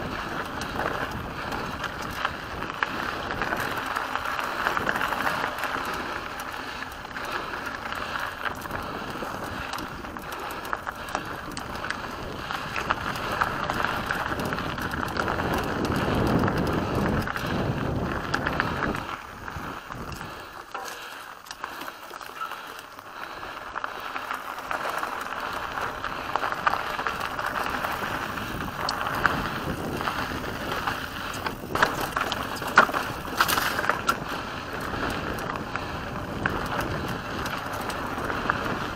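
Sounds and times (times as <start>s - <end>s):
bike frame rattling: 0.0s - 38.9s
bike tyres rolling over gravel: 0.0s - 38.9s.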